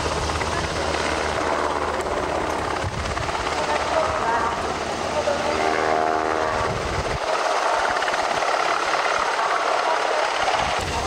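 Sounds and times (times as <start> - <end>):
helicopter rotor noise: 0.0 - 11.0.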